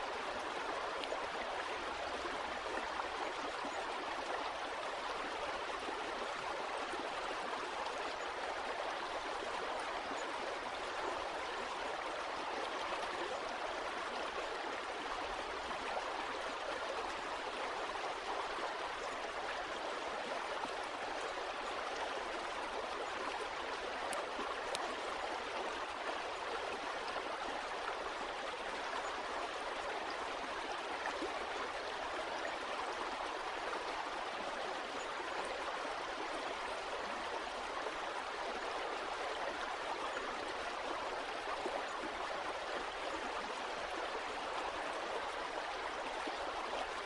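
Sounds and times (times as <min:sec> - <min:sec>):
stream water flowing: 0:00.0 - 0:47.0.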